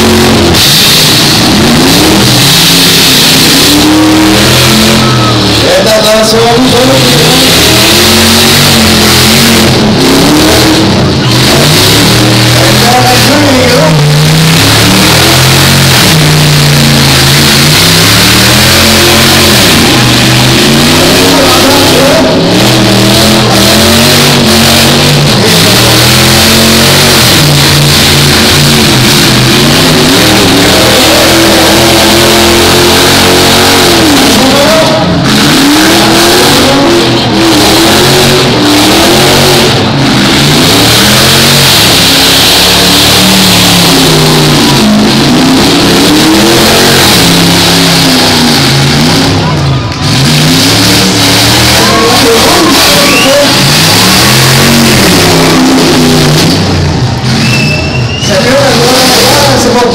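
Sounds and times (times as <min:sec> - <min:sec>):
engines revving hard: 0:00.0 - 0:59.9.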